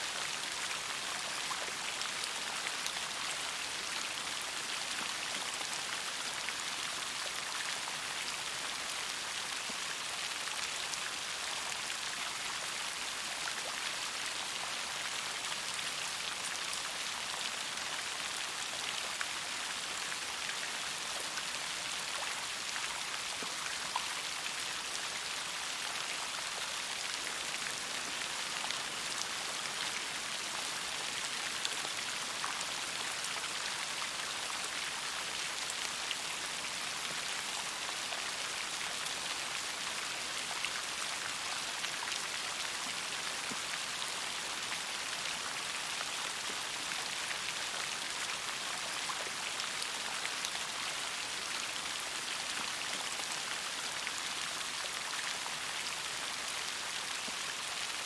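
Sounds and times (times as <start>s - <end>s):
rain patter: 0.0s - 58.0s.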